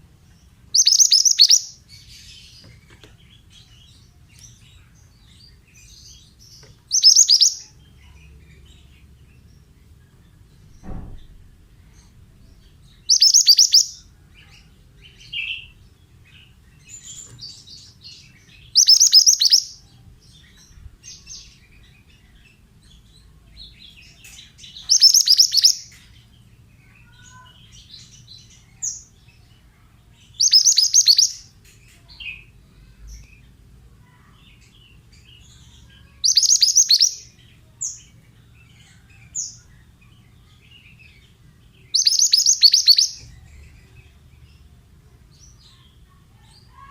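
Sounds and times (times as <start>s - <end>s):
soft bird chirps: 0.0s - 46.9s
songbird singing bright phrase: 0.4s - 46.9s.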